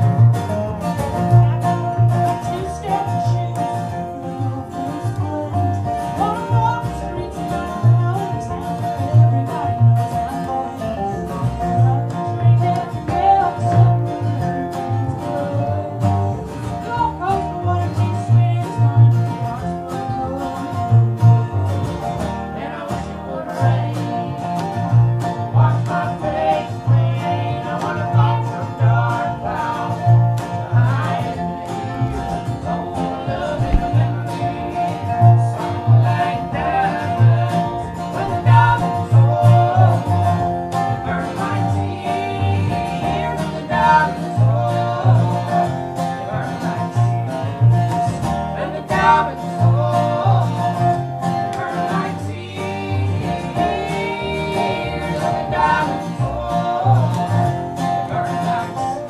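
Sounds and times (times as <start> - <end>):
acoustic guitar: 0.0 - 59.0
plucked double bass: 0.0 - 59.0.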